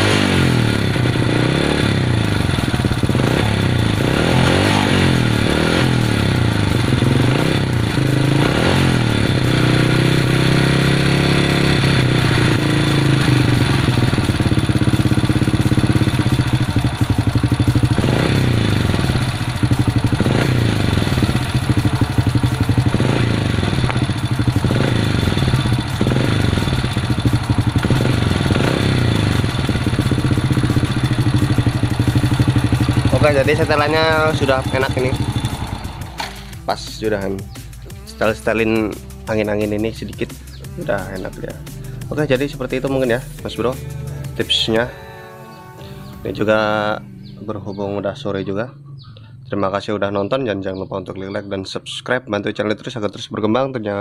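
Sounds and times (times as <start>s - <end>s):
motorcycle engine revving: 0.0s - 45.2s, 45.8s - 52.1s.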